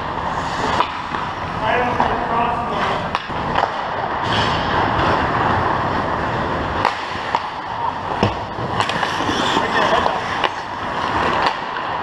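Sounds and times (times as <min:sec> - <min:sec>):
skates scraping on ice: 0:00.0 - 0:12.0
stick hitting puck: 0:00.6 - 0:05.2, 0:06.7 - 0:12.0.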